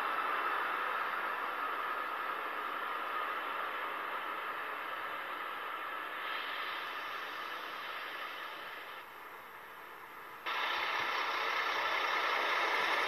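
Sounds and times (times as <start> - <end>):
trains rushing past: 0.0 - 13.0.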